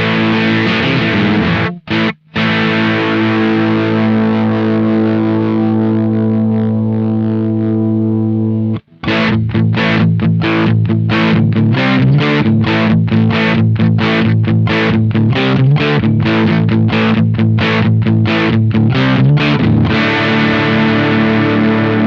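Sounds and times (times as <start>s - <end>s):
chopped guitar riff: 0.0s - 22.0s
distorted electric guitar chords: 0.0s - 22.0s.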